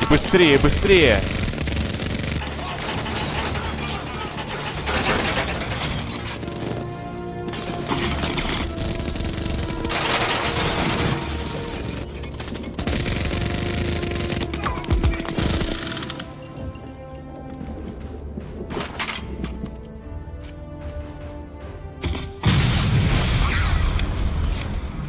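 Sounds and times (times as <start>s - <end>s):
film score: 0.0s - 25.0s.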